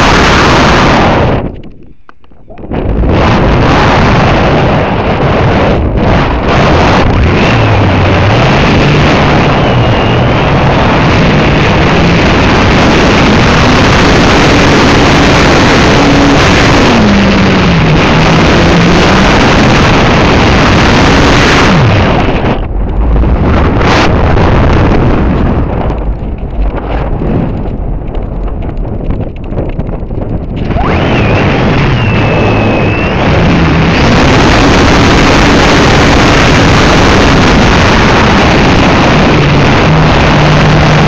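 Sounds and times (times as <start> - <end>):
motor humming: 0.0 - 41.0
wind rush on microphone: 0.0 - 41.0.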